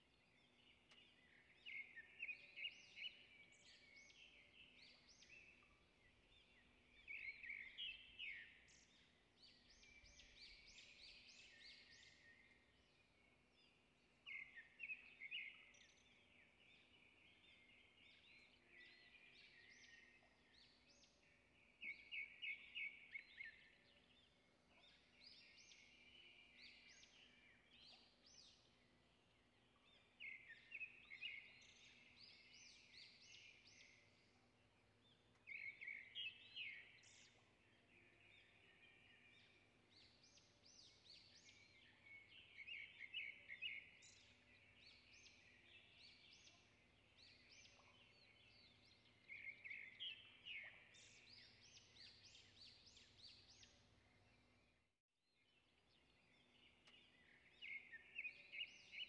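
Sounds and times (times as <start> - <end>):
faint high bird chirps and trills: 0.0 - 59.0.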